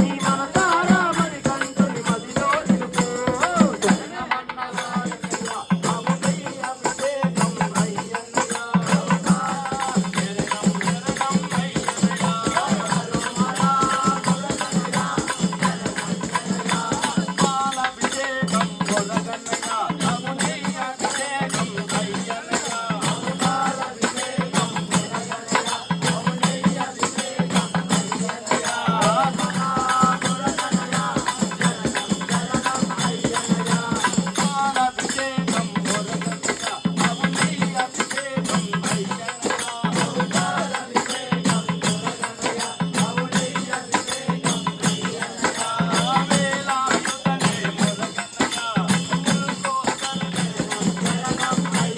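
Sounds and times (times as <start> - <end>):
hand percussion beat: 0.0 - 51.9
jingling tambourine rattles: 0.0 - 51.9
voices singing: 0.0 - 51.9.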